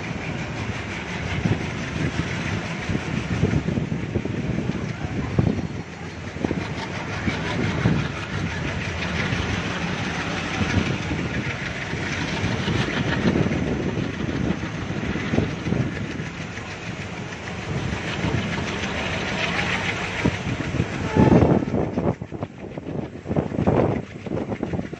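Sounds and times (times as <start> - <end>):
train rumbling on track: 0.0 - 24.9.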